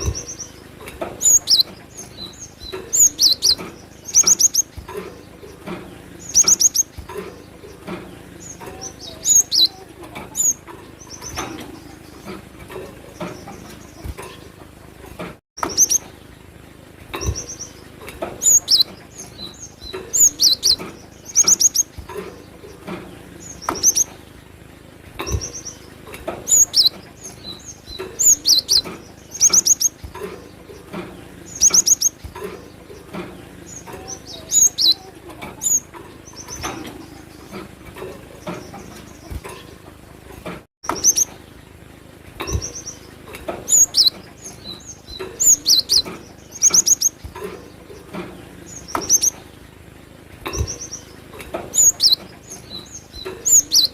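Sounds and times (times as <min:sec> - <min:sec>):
bird chirping: 0:00.0 - 0:14.6, 0:15.6 - 0:24.4, 0:25.2 - 0:39.9, 0:40.8 - 0:41.5, 0:42.4 - 0:49.7, 0:50.4 - 0:53.9.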